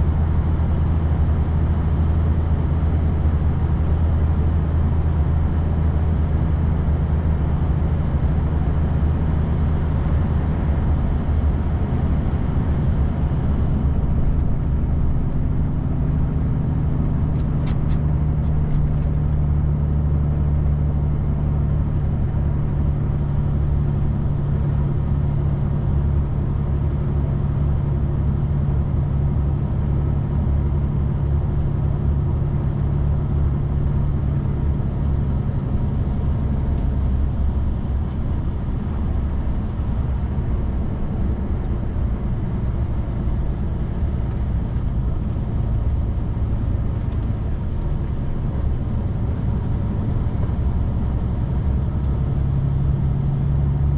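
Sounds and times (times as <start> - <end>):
vehicle driving on wet road: 10.6 - 53.9.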